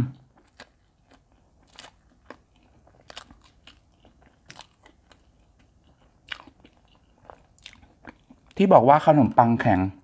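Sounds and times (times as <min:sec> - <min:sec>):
quiet chewing: 0:00.0 - 0:08.6.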